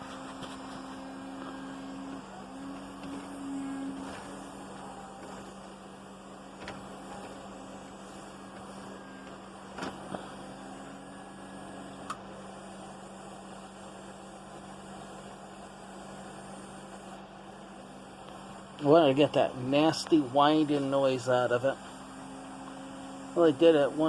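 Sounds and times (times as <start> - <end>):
model train electric hum: 0.0 - 24.0.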